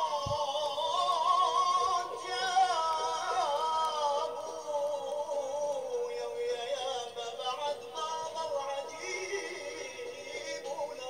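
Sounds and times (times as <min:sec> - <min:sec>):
person singing ornamented vocal: 0:00.0 - 0:11.0.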